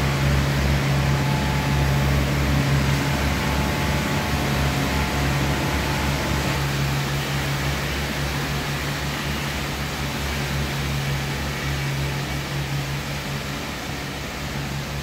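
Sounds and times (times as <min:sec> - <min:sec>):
machinery hum: 0:00.0 - 0:15.0
ventilation fans rushing air: 0:00.0 - 0:15.0.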